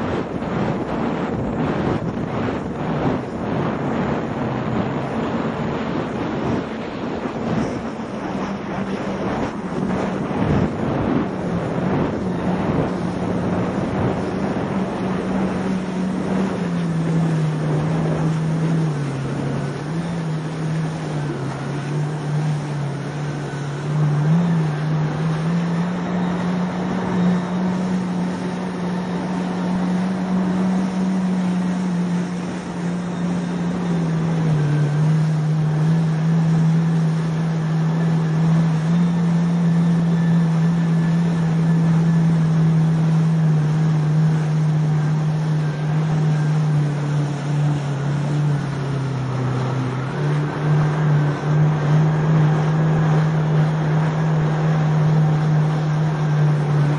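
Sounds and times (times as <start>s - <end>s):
jet ski engine running: 0.0s - 56.9s
rush of water spray: 0.0s - 56.9s.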